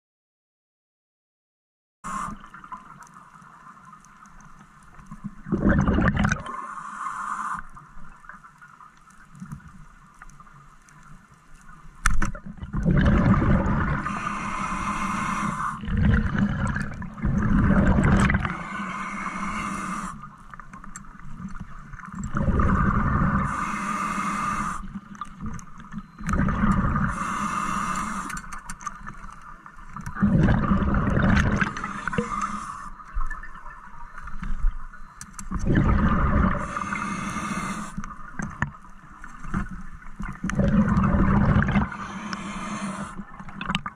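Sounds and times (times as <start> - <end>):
water rushing underwater: 5.1 - 8.5, 12.1 - 43.9.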